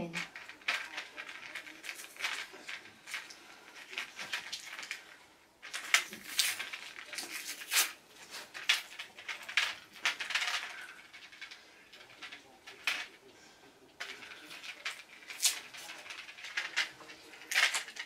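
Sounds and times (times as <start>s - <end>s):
small objects crackling and rustling: 0.0s - 18.0s.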